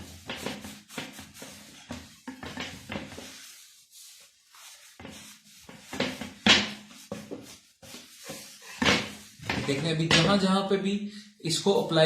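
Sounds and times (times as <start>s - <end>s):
hand scrubbing wheel hub: 0.0s - 9.9s.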